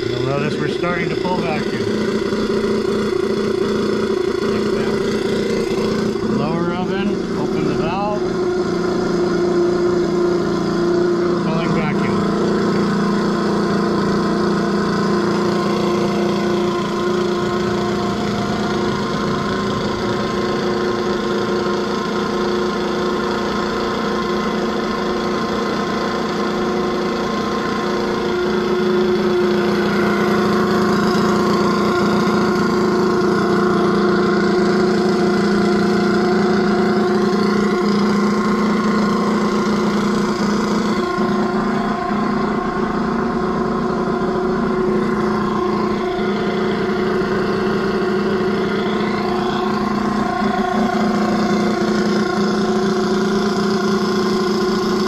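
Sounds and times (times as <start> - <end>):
vacuum pump humming: 0.0 - 55.0.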